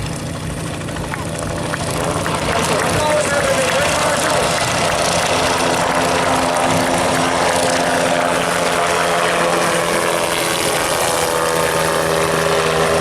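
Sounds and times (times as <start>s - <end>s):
aircraft engine and propeller droning: 0.0s - 13.0s.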